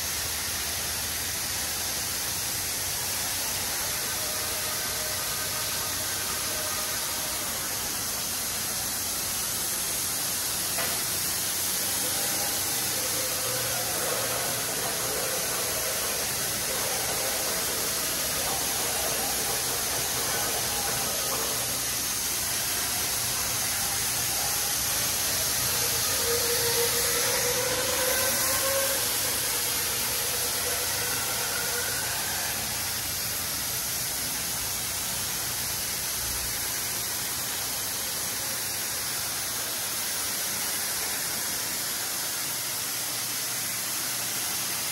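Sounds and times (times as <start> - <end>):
car wash water spray hissing: 0.0 - 44.9.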